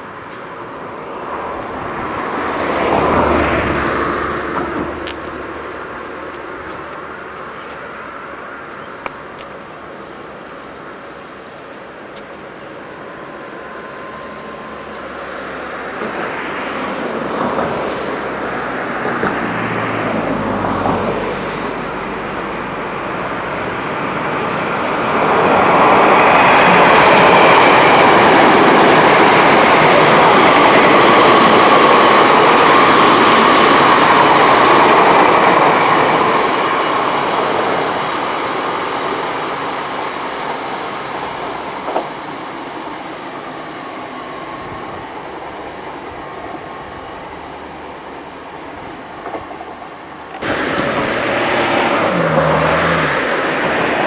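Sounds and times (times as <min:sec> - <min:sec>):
electric train passing: 0:00.0 - 0:54.0.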